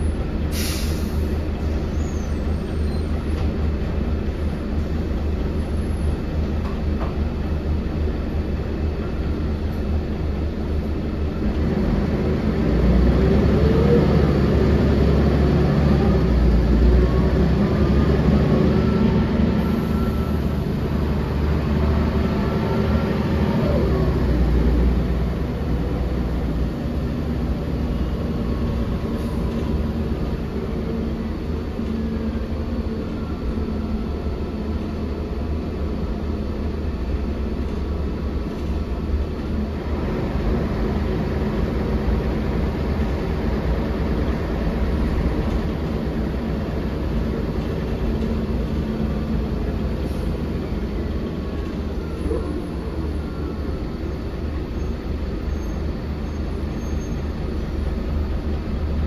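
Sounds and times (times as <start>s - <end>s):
bus engine droning: 0.0s - 59.0s
road noise: 0.0s - 59.0s.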